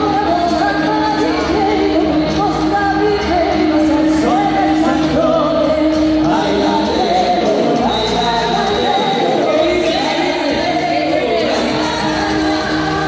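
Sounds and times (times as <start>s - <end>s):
live band playing pop dance music: 0.0s - 13.0s
person singing: 0.0s - 13.0s.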